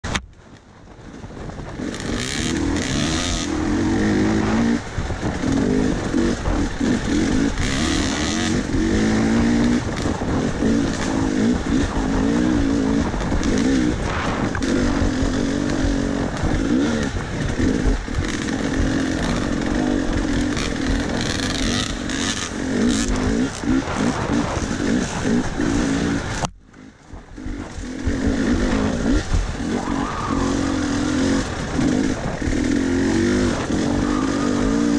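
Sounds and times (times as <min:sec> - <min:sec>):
dirt bike engine revving: 0:01.7 - 0:34.9.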